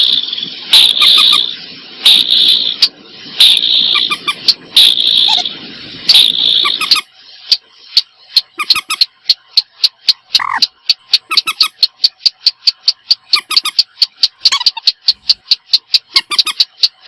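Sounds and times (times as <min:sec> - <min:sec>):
sharp ticking bird notes: 0:00.0 - 0:01.5, 0:02.1 - 0:05.5, 0:06.1 - 0:17.0.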